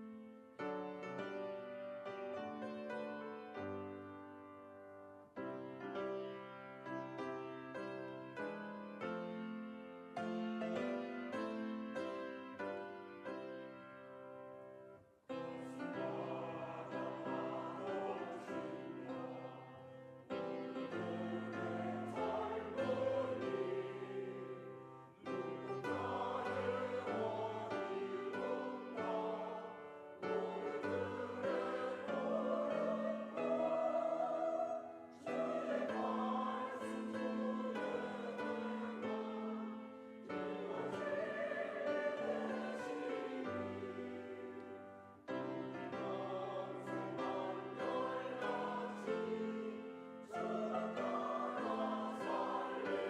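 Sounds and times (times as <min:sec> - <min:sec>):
church choir singing: 0:00.0 - 0:53.0
piano accompaniment: 0:00.0 - 0:53.0.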